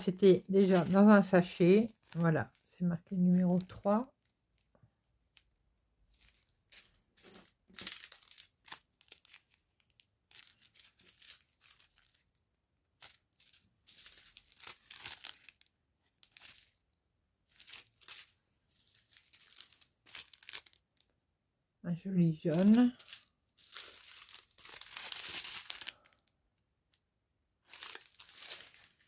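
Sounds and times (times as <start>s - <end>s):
plastic sachets crinkling: 0.0s - 21.2s, 22.3s - 26.4s, 27.6s - 29.0s.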